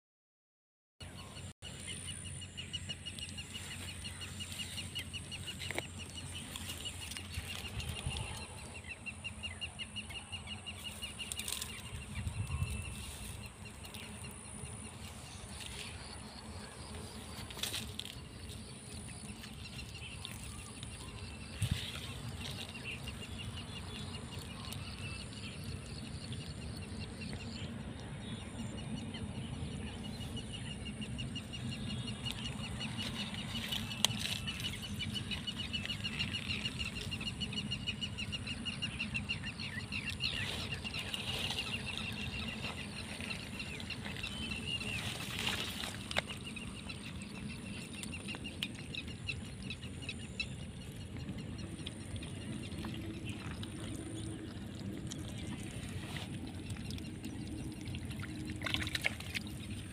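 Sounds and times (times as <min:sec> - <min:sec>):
steady low rumble: 0:01.0 - 0:59.9.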